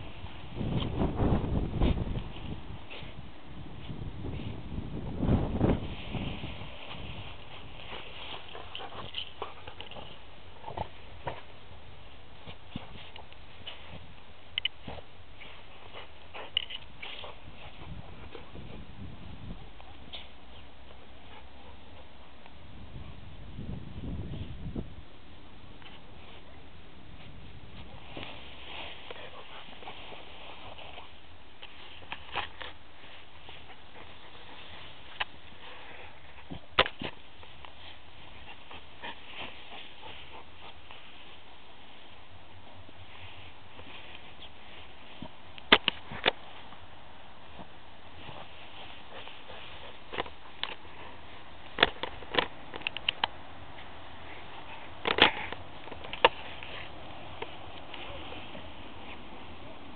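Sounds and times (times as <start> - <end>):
grass rustling on microphone: 0.0 - 59.9
steady low hiss: 0.0 - 59.9.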